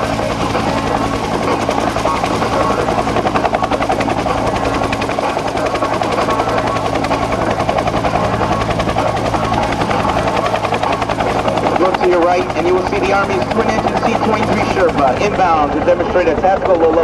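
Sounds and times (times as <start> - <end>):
helicopter rotor beating: 0.0 - 17.0
turbine hum: 0.0 - 17.0.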